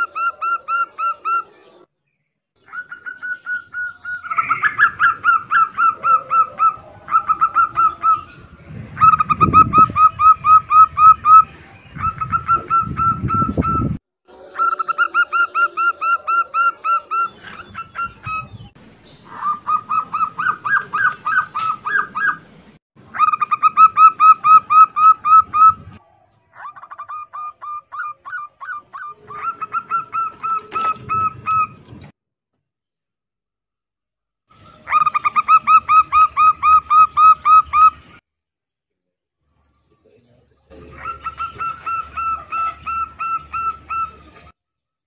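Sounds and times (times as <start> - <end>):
doves calling: 0.0 - 32.1, 34.5 - 38.2, 40.4 - 44.6.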